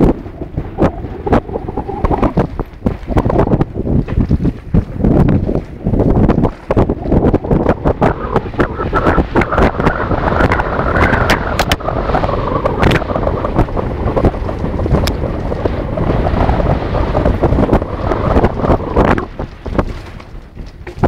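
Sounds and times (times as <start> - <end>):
bike rattling over rough ground: 0.0 - 21.0
wind rushing over microphone: 0.0 - 21.0.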